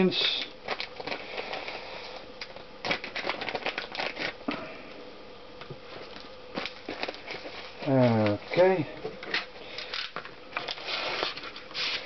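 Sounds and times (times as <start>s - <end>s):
plastic bag crinkling: 0.2s - 4.6s, 5.9s - 12.0s.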